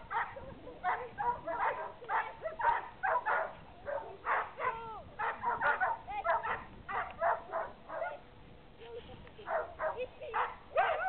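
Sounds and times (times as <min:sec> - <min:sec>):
dog yapping: 0:00.1 - 0:08.2, 0:09.5 - 0:11.0.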